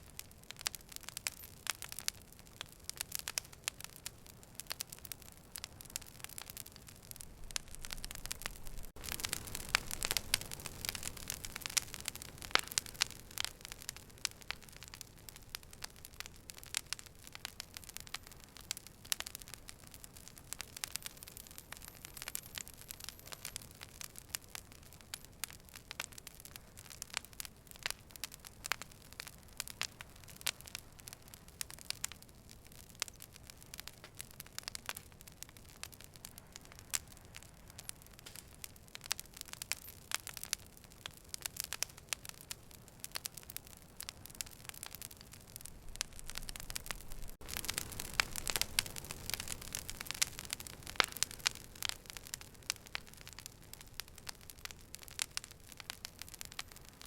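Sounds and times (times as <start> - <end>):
fire crackling and popping: 0.0 - 57.0
soft steady hiss: 0.0 - 57.0.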